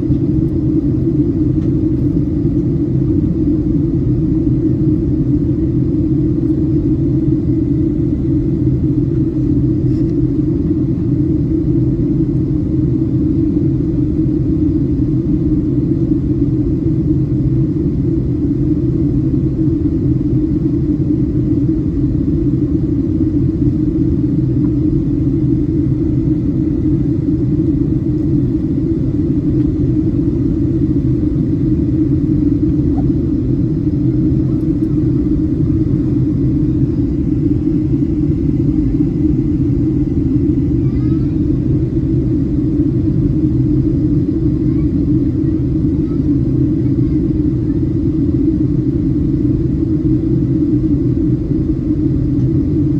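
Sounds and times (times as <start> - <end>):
airplane cabin engine drone: 0.0 - 52.9.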